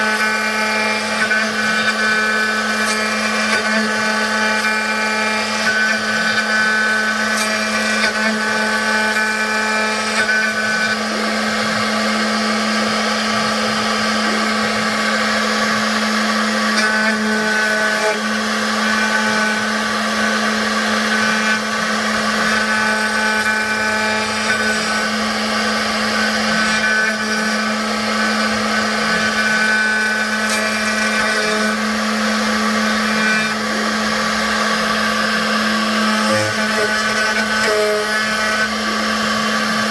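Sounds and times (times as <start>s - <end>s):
router spindle humming: 0.0s - 39.9s.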